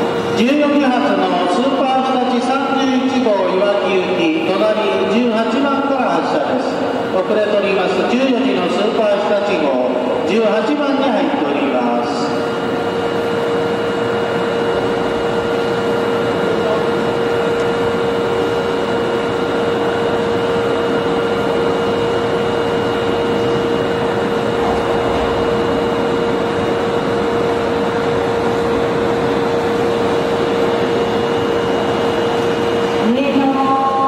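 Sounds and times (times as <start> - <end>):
electric train hum and whine: 0.0 - 34.0.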